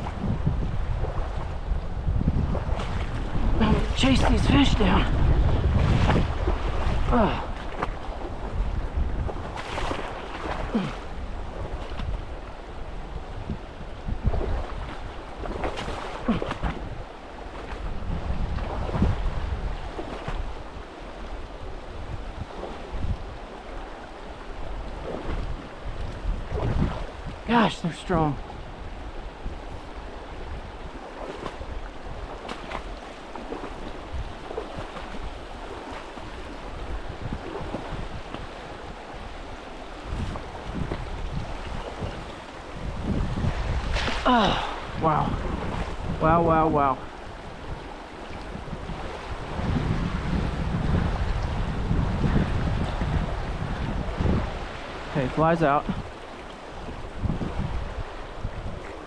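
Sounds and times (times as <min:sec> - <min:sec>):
stream water rushing: 0:00.0 - 0:59.0
wind buffeting microphone: 0:00.0 - 0:59.0.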